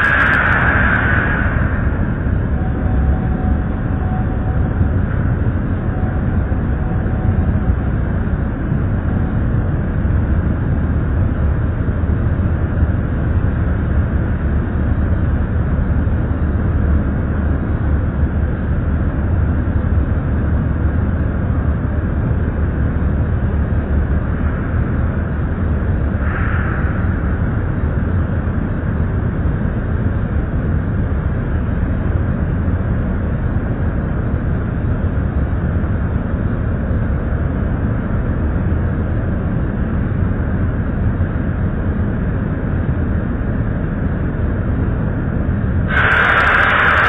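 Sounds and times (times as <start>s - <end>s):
low rumble: 0.0s - 47.0s.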